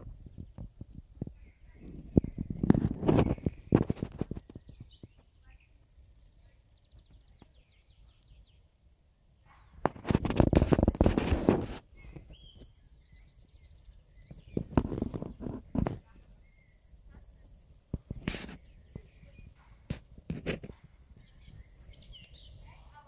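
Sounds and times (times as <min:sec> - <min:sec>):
crackling rustle near microphone: 0:00.0 - 0:08.4, 0:09.4 - 0:23.0
songbirds singing: 0:00.0 - 0:23.0.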